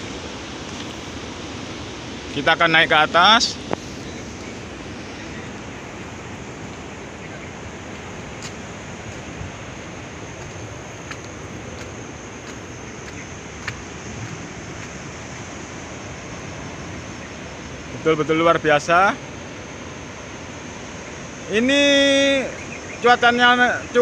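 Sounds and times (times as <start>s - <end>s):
sea surf breaking: 0.0s - 24.0s
wind: 0.0s - 24.0s.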